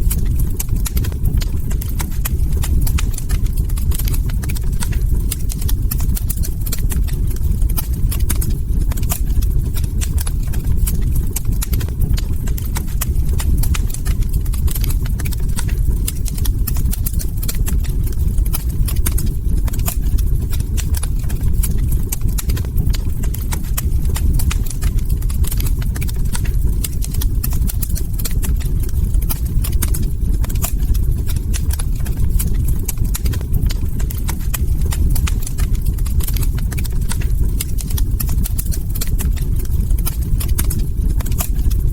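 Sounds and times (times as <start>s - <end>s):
log fire crackling: 0.0s - 41.9s.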